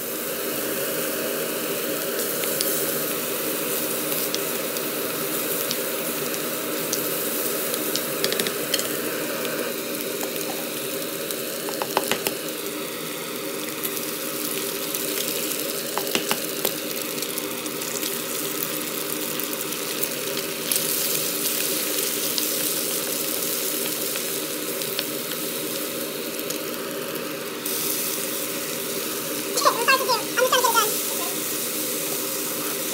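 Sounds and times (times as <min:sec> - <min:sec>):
food sizzling in frying pan: 0:00.0 - 0:32.9.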